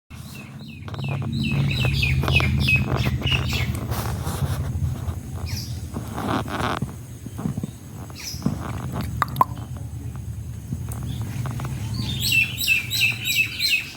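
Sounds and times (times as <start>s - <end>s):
steady low hum: 0.1s - 13.9s
parrot chirping: 0.4s - 6.4s, 7.4s - 13.9s.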